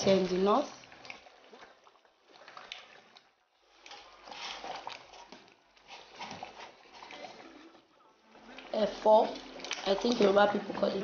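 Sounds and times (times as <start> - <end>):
greens squishing into soup: 0.7 - 10.3.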